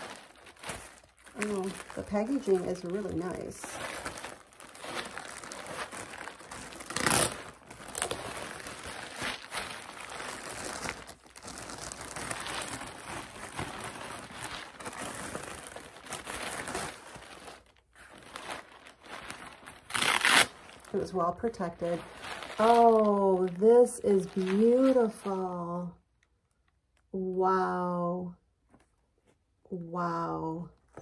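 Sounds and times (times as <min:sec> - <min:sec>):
plastic bag and tissue paper crinkling: 0:00.0 - 0:25.8.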